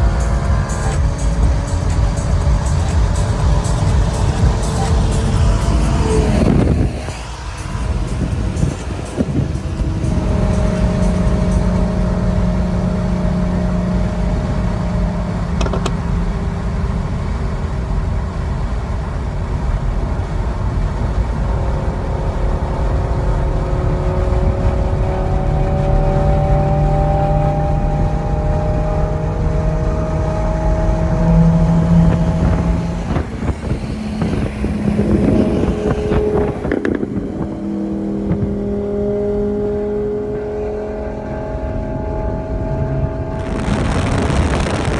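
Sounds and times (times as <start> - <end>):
sports car exhaust cruising: 0.0 - 44.9.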